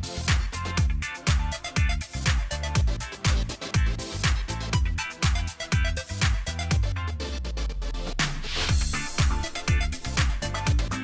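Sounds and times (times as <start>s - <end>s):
kick drum beating: 0.0s - 7.0s, 8.7s - 11.0s
electronic dance music: 0.0s - 11.0s.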